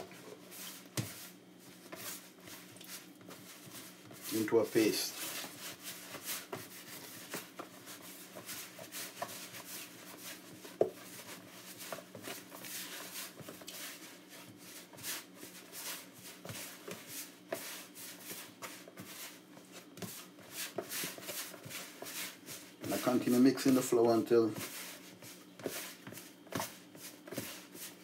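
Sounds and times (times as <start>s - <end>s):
dough mix rubbing on plastic: 0.0s - 28.0s.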